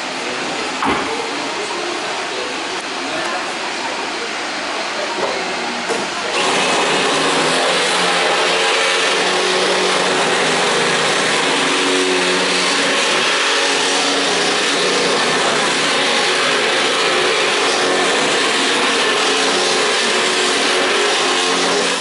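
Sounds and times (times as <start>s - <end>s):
vacuum cleaner whirring: 0.0s - 22.0s.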